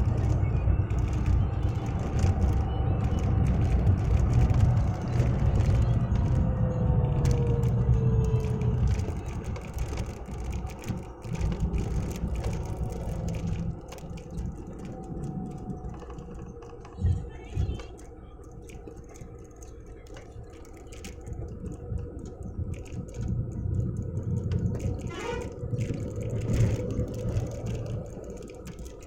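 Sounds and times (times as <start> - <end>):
road vehicle rumble: 0.0 - 29.0
small clicks and rattles: 0.0 - 29.0.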